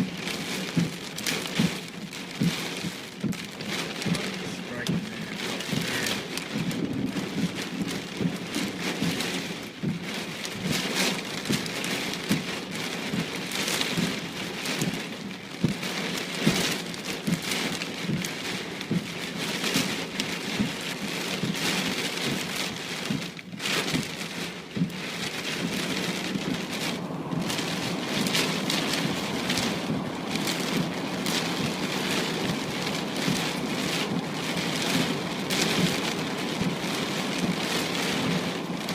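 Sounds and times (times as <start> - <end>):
rain falling: 0.0 - 38.9
raindrops hitting a surface: 0.0 - 38.9.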